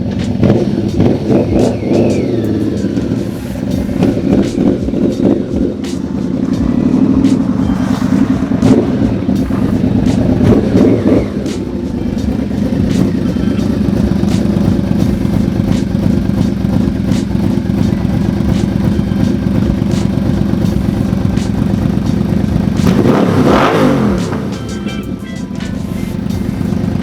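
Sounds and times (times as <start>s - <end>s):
motorcycle engine idling: 0.0s - 27.0s
motorcycle engine revving: 0.0s - 27.0s.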